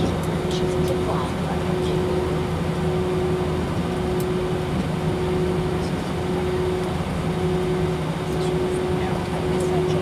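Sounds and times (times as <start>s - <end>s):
jet engine cabin drone: 0.0s - 10.0s.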